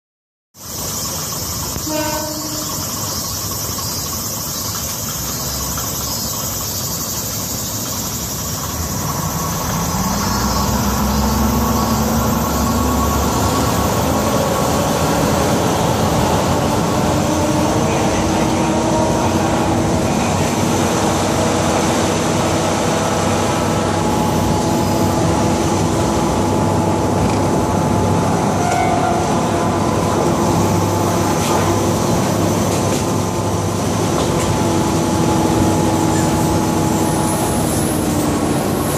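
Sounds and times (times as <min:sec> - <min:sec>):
diesel railcar engines: 0:00.6 - 0:38.9
rail noise: 0:00.6 - 0:38.9.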